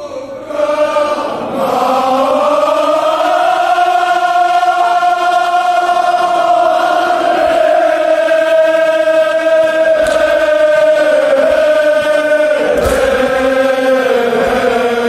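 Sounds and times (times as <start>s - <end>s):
men chanting in unison: 0.0s - 15.0s.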